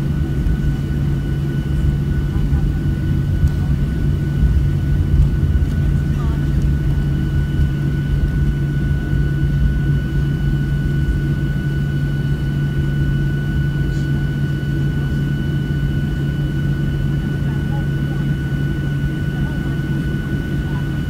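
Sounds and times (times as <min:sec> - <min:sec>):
aircraft cabin rumble and hum: 0:00.0 - 0:21.0.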